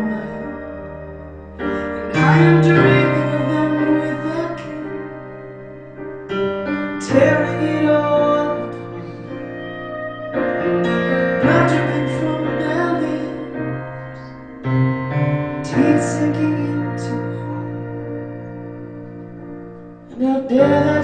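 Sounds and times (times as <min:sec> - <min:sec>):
electric guitar: 0:00.0 - 0:21.0
piano chords: 0:00.0 - 0:21.0.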